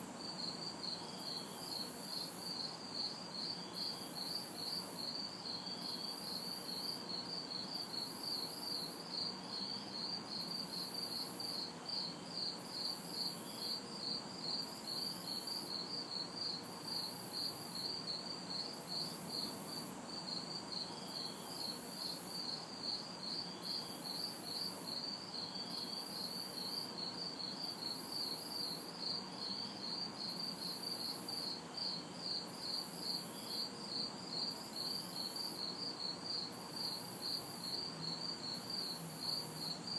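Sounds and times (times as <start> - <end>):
crickets chirping: 0.0 - 39.9
hissing insect call: 0.0 - 39.9.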